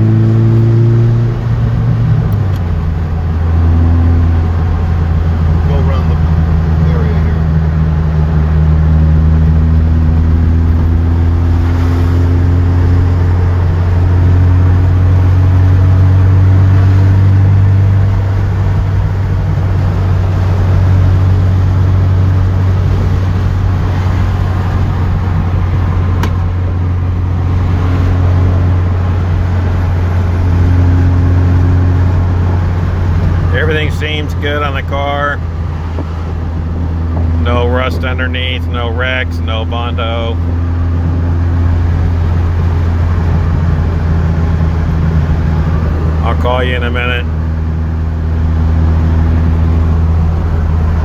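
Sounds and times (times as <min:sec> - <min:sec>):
car engine running: 0:00.0 - 0:51.0
road noise: 0:00.0 - 0:51.0.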